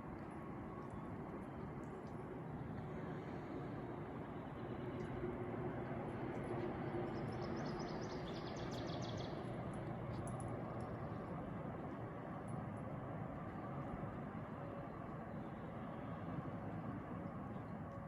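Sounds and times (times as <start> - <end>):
steady outdoor rumble: 0.0 - 18.0.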